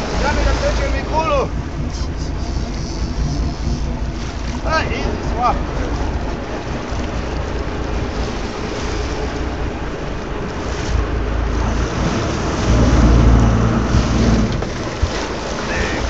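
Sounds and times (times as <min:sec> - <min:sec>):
water washing against hull: 0:00.0 - 0:16.0
wind on microphone: 0:00.0 - 0:16.0.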